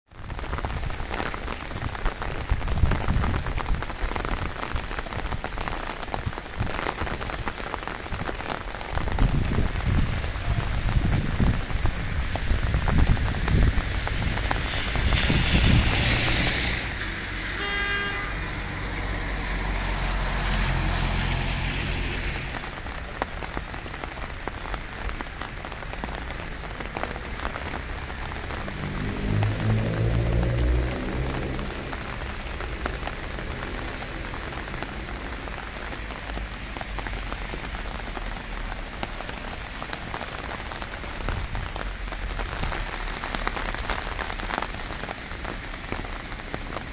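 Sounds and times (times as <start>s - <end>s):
rain on wet paving: 0.1s - 46.9s.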